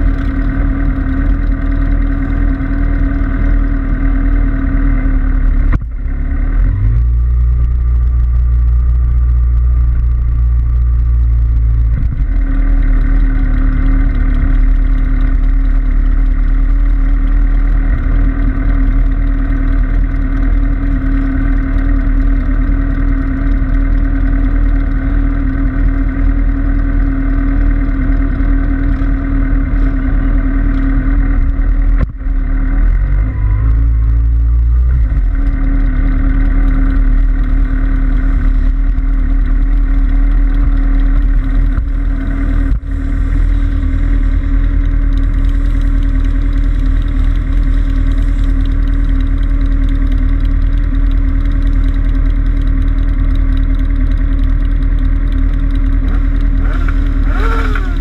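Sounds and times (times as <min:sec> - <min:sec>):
motorcycle engines idling: 0:00.0 - 0:58.0.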